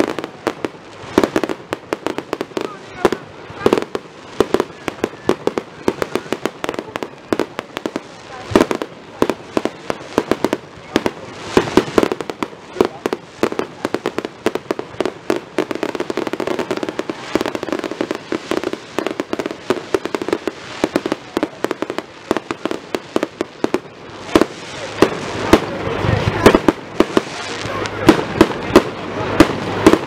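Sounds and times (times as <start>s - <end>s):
fireworks bursting: 0.0s - 30.0s
fireworks crackling: 0.0s - 30.0s.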